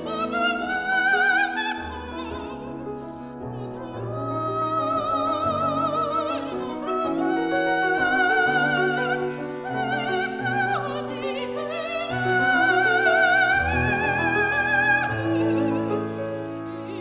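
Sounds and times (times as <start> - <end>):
piano: 0.0 - 17.0
soprano singing with vibrato: 0.0 - 17.0.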